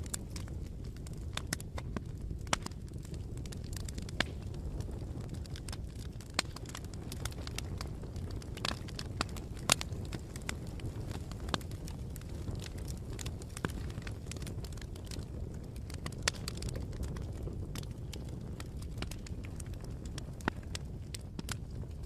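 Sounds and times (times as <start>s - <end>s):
burning wood crackling and popping: 0.0s - 22.0s
campfire rumble: 0.0s - 22.0s.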